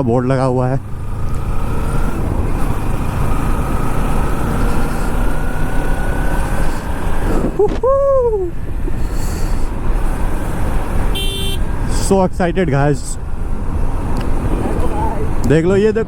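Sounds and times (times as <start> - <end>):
motorcycle engine whine: 0.0 - 16.0
wind and road rumble: 0.0 - 16.0.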